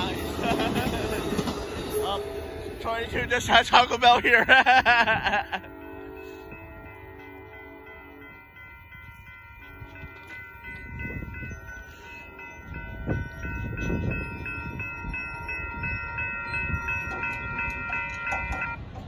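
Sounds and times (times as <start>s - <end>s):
crossing warning bell ringing: 0.0s - 19.0s
train rumbling past: 0.0s - 19.0s
train wheels clicking on rails: 0.0s - 19.0s.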